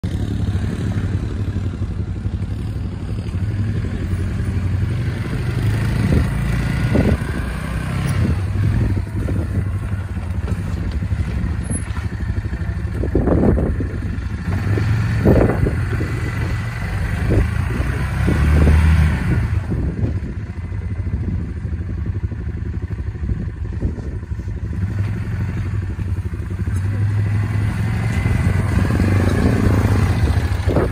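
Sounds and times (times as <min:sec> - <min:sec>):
quad bike engine running: 0:00.0 - 0:30.9.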